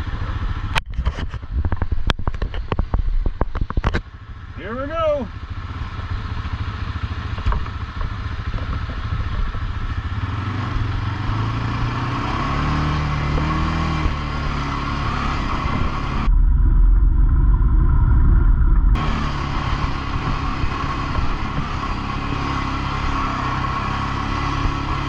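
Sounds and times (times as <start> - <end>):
atv engine running: 0.0 - 16.4, 18.5 - 25.0
loud low rumble: 0.0 - 25.0.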